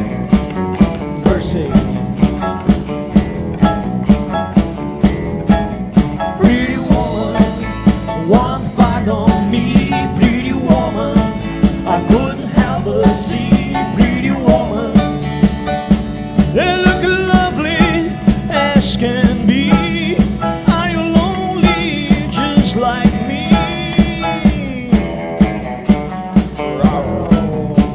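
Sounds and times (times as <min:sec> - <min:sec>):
fast drum beat: 0:00.0 - 0:27.9
lead guitar bending notes: 0:00.0 - 0:27.9
rock band playing: 0:00.0 - 0:27.9.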